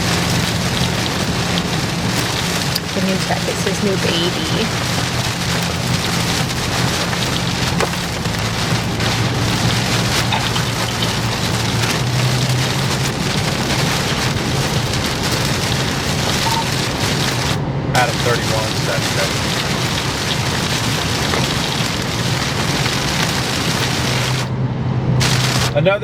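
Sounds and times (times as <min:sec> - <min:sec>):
sharp raindrop ticks: 0:00.0 - 0:24.5, 0:25.2 - 0:25.8
rain on vehicle roof: 0:00.0 - 0:24.6, 0:25.2 - 0:26.0
low engine and road drone: 0:00.0 - 0:26.0.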